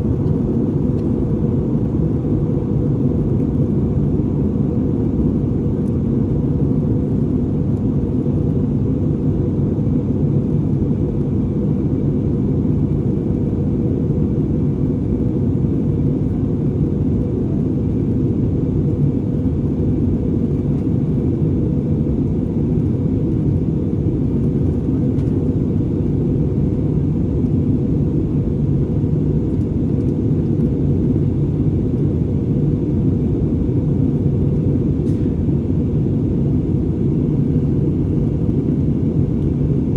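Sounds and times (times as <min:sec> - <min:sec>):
aircraft low rumble: 0:00.0 - 0:39.9.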